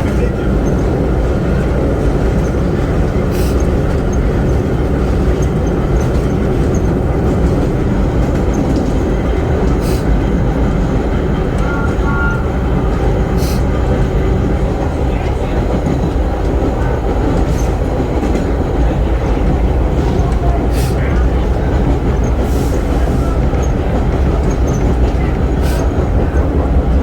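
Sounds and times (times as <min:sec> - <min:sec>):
subway train wheels rumbling: 0:00.0 - 0:27.0.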